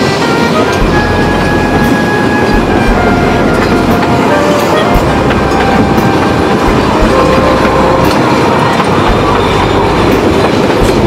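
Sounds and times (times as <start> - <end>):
train carriages rattling on rails: 0.0 - 11.0.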